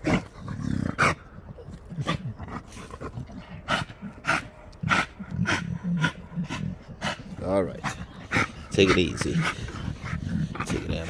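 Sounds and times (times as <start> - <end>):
dogs growling low: 0.0 - 11.0.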